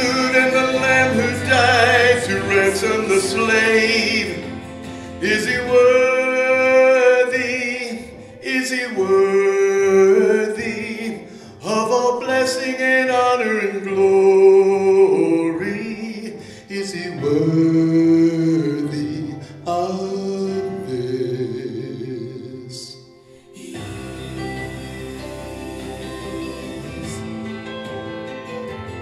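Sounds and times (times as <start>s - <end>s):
man singing a slow hymn: 0.0s - 27.4s
soft instrumental accompaniment: 0.0s - 29.0s.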